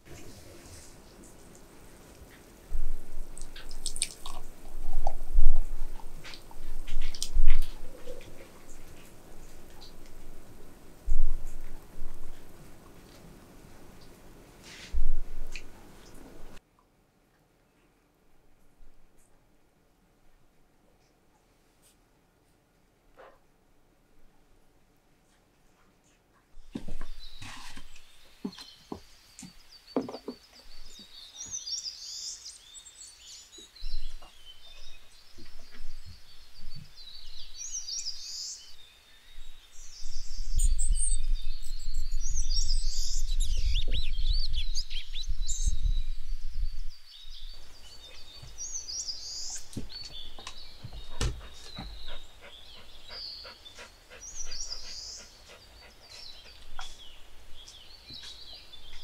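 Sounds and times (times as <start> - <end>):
small birds chirping: 0.1 - 16.6, 26.6 - 59.0.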